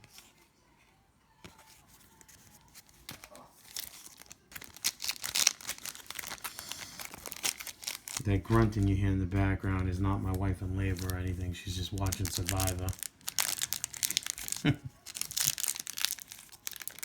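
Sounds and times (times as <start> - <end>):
card pack wrapper tearing and crinkling: 1.5 - 17.0.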